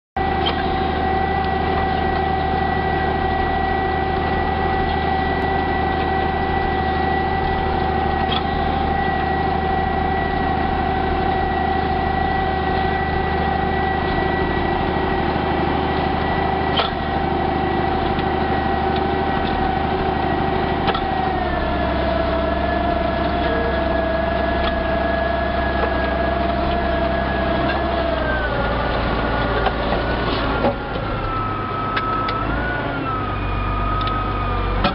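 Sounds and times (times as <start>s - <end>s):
high-pitched whine: 0.2s - 34.9s
tractor engine running under load: 0.2s - 34.9s.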